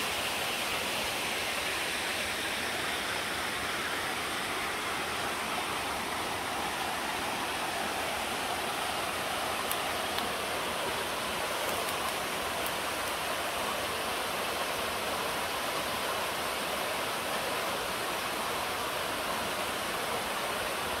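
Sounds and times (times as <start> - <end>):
stream cascading over rock: 0.0 - 21.0.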